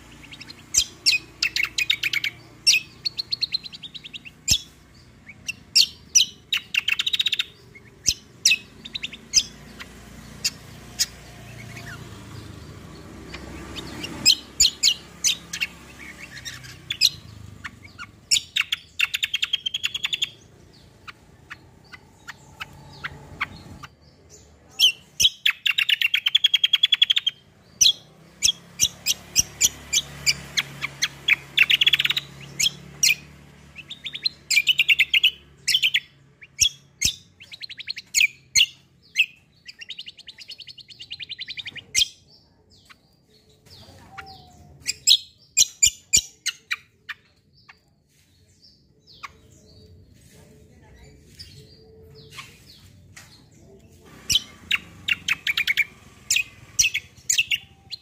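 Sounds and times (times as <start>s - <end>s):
songbird trilling: 0.0s - 50.2s, 51.1s - 58.0s.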